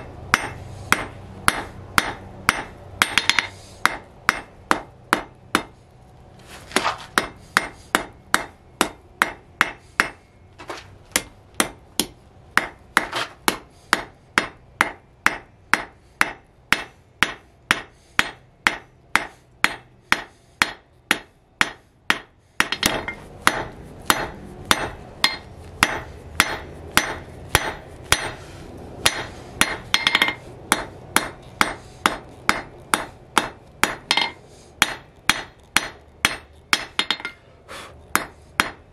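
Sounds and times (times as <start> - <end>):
hammer striking steel on anvil: 0.0 - 5.8, 6.7 - 28.4, 29.0 - 37.5, 38.1 - 38.9.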